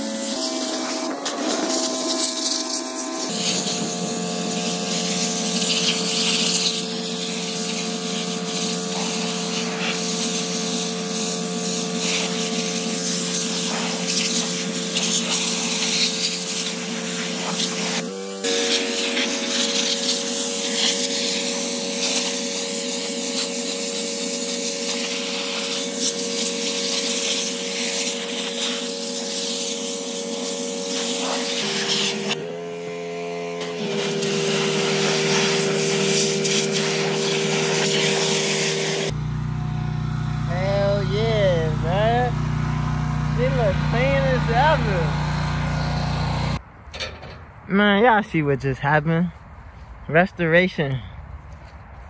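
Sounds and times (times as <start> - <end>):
high-pressure water jet hissing: 0.0 - 39.2, 40.4 - 46.6
pressure washer engine hum: 0.0 - 47.4.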